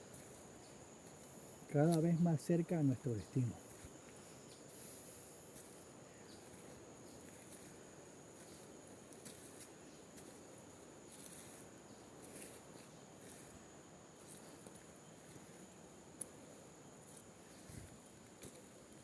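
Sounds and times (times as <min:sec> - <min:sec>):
insects high-pitched whine: 0:00.0 - 0:19.0
low background noise: 0:00.0 - 0:19.0
very high insect chirps: 0:00.0 - 0:19.0.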